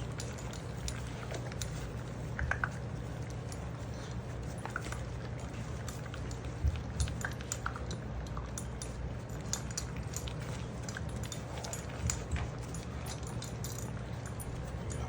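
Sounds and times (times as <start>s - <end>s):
puppies crunching kibble: 0.0s - 15.0s.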